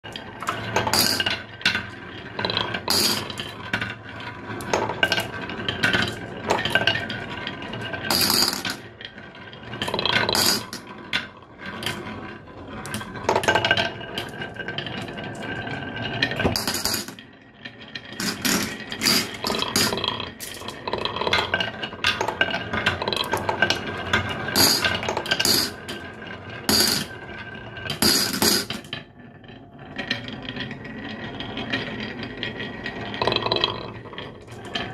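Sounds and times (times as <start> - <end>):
marbles clicking on wood: 0.1 - 26.1, 26.7 - 27.2, 31.2 - 34.9.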